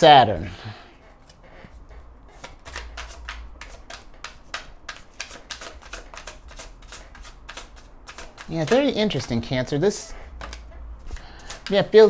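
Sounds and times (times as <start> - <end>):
cards being shuffled: 1.2 - 12.0.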